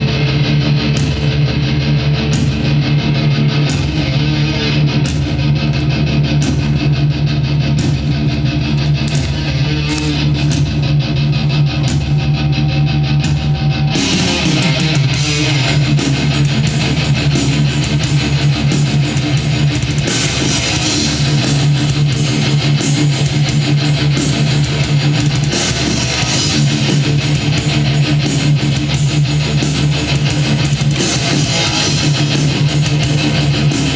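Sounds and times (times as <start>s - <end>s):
heavy metal music: 0.0s - 33.9s.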